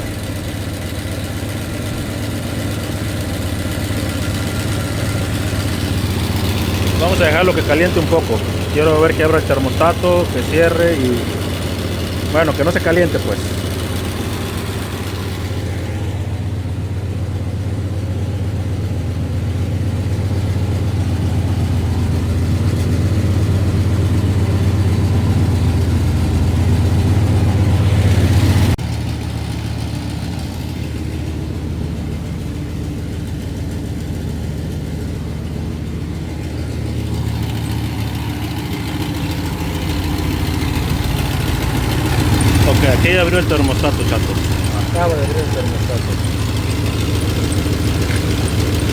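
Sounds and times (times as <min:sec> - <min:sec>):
car engine idling: 0:00.0 - 0:48.9
open exhaust noise: 0:00.0 - 0:48.9.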